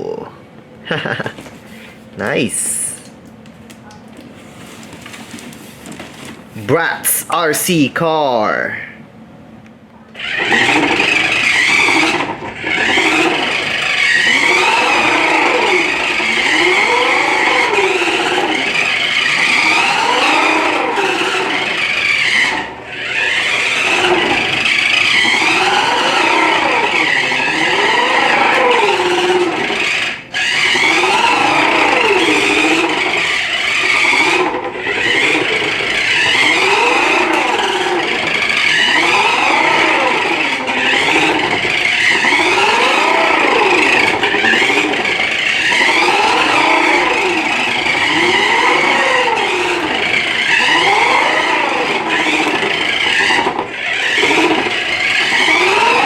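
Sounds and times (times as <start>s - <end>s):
toy car electric motor whirring: 10.1s - 56.0s.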